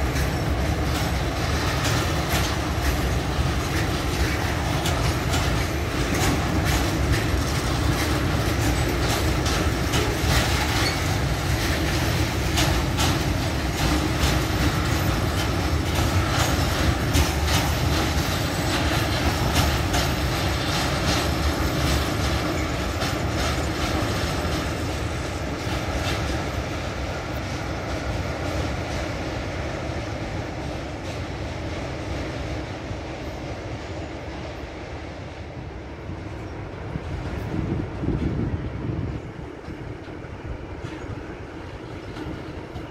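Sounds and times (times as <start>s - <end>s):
wheels clicking over rail joints: 0.0s - 34.6s, 36.1s - 42.9s
freight train rolling past: 0.0s - 42.9s.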